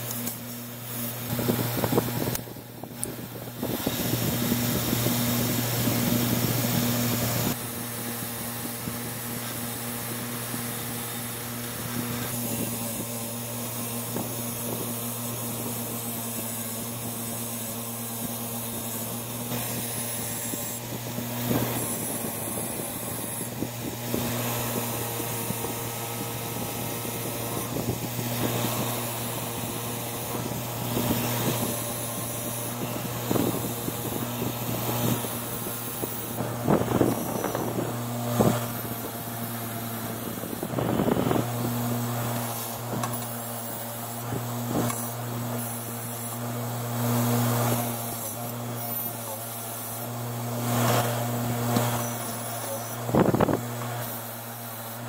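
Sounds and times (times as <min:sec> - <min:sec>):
bench grinder motor humming: 0:00.0 - 0:55.0
metal scrubbed on wire wheel: 0:03.0 - 0:55.0.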